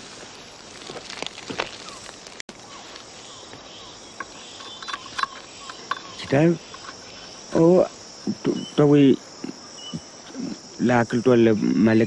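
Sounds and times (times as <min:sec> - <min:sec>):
forest background: 0:00.0 - 0:12.0
loud buzzing insect calls: 0:00.0 - 0:12.0.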